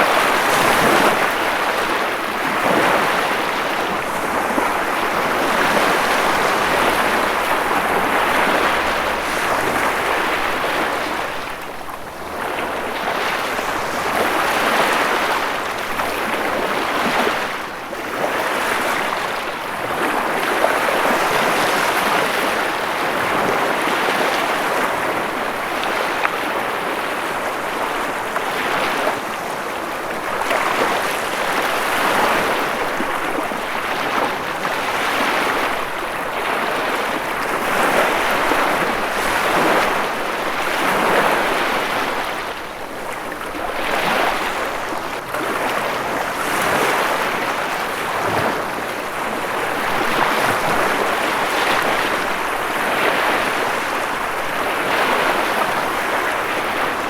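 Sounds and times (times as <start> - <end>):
ocean surf rushing: 0.0 - 57.0.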